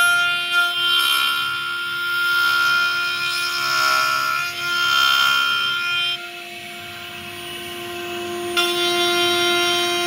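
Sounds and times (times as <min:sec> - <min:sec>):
router spindle whining: 0:00.0 - 0:10.0.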